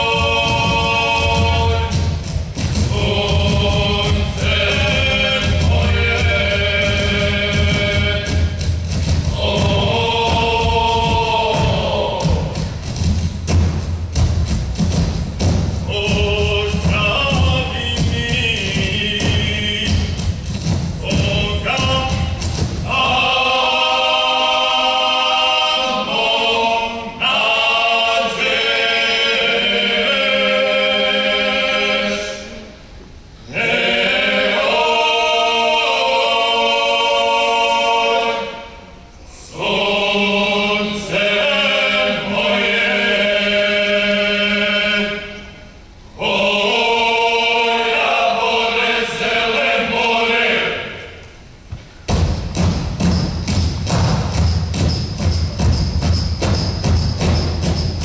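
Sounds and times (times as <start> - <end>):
group singing unaccompanied: 0.0 - 13.8, 14.9 - 51.3.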